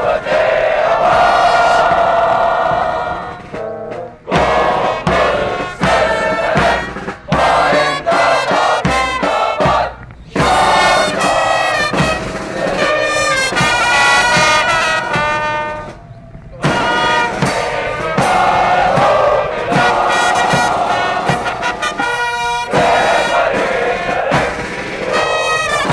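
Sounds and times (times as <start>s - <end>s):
brass band playing: 0.0s - 25.9s
steady drumbeat: 0.0s - 25.9s.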